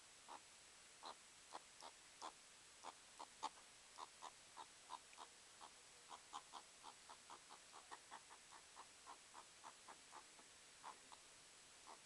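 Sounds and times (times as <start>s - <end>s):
meerkat chirping calls: 1.0s - 11.2s.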